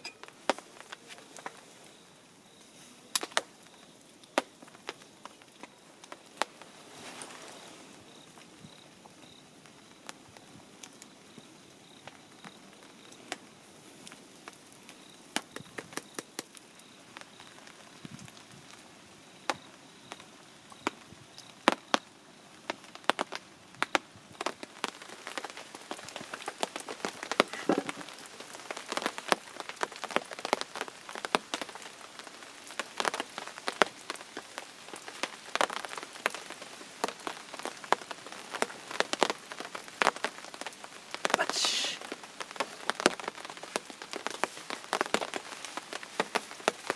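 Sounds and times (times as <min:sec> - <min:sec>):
fire crackling: 0:00.0 - 0:46.9.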